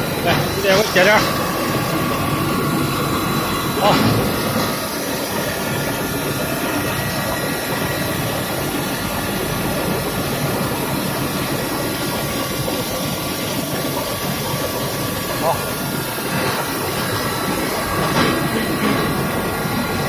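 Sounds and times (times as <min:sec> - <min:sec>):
machine hum and hiss: 0:00.0 - 0:20.0.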